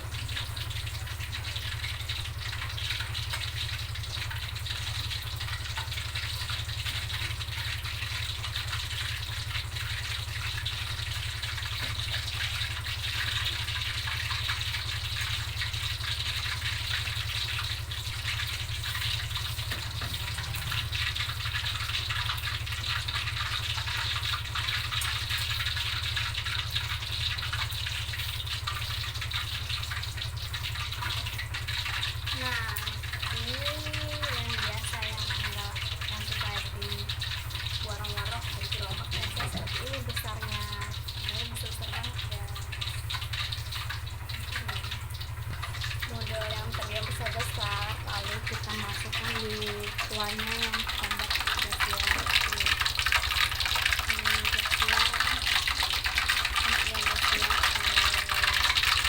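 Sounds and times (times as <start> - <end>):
constant low hum: 0.0 - 59.0
fish sizzling in hot oil: 0.0 - 59.0.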